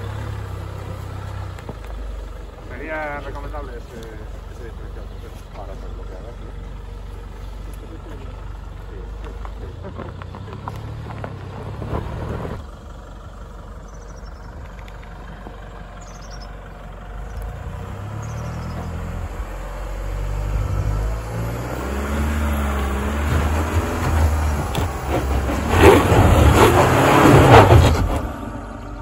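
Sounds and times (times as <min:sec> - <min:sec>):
vehicle engine working off-road: 0:00.0 - 0:29.0.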